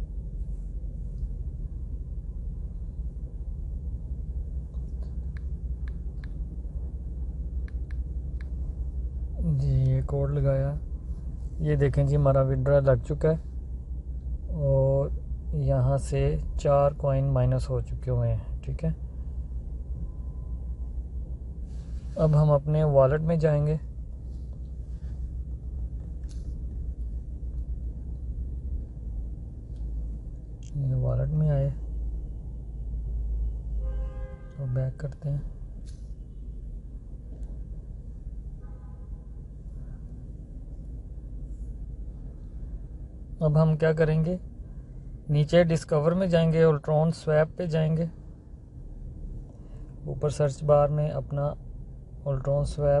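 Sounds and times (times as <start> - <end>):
low background hum: 0.0 - 53.0
low background rumble: 0.0 - 53.0.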